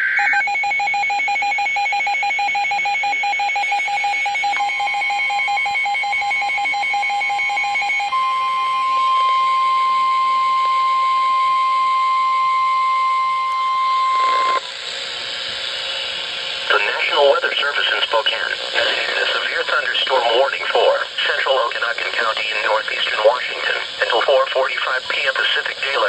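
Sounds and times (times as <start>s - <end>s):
weather radio alarm tone: 0.0s - 14.7s, 16.6s - 26.0s.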